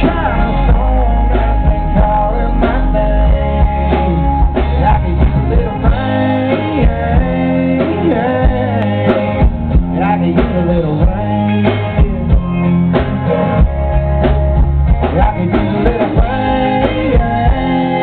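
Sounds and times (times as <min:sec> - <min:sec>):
country band playing live: 0:00.0 - 0:18.0
male lead vocal: 0:00.0 - 0:18.0.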